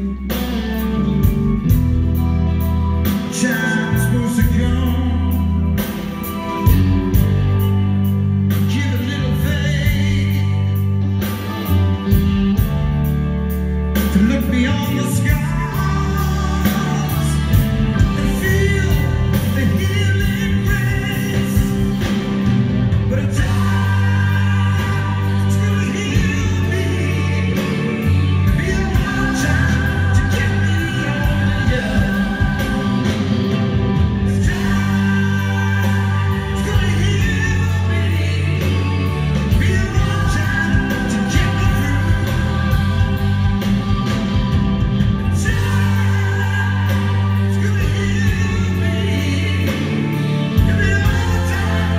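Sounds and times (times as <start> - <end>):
live rock band playing: 0.0 - 51.9
melodic lead line: 0.0 - 51.9.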